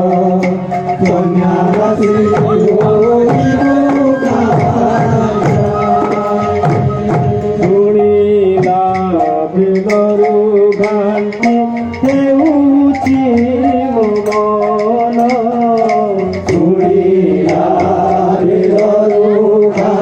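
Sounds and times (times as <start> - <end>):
hand drum strokes: 0.0 - 20.0
held pitched melody notes: 0.0 - 20.0.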